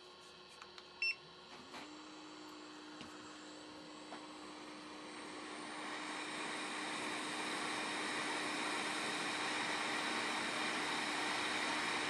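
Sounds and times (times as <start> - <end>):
hot air blower hissing: 1.7 - 12.0.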